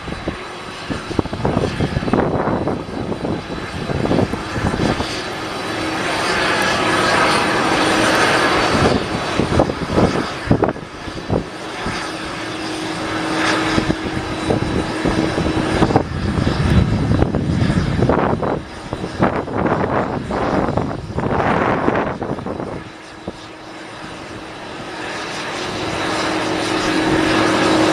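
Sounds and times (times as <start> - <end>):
airliner engines running: 0.0 - 27.9.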